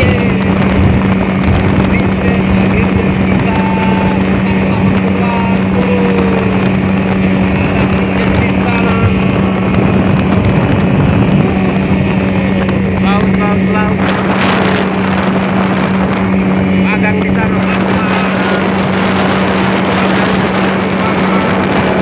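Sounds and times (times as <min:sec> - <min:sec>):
speedboat engine drone: 0:00.0 - 0:22.0
water spraying off hull: 0:00.0 - 0:22.0
wind rushing: 0:00.0 - 0:22.0.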